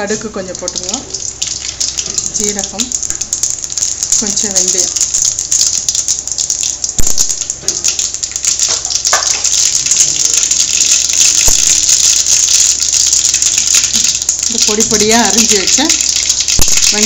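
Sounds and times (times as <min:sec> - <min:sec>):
seeds popping: 0:00.0 - 0:17.0
seeds sizzling in hot oil: 0:00.0 - 0:17.0.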